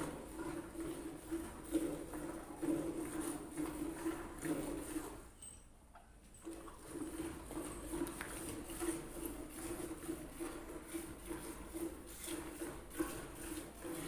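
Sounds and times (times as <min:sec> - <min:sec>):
milk squirting into pail: 0:00.0 - 0:05.2, 0:06.4 - 0:14.0.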